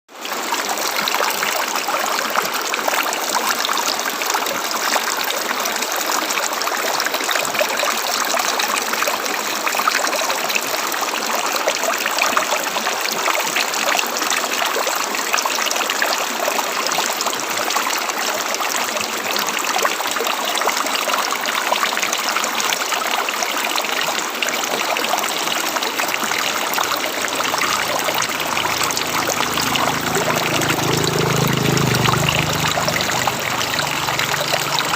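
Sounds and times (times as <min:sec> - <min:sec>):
river running over rocks: 0:00.1 - 0:34.9.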